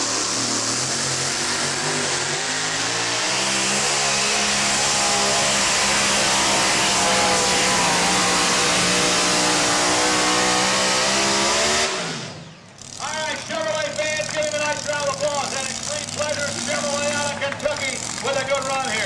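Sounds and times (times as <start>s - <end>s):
truck engine under full power: 0.0s - 19.0s.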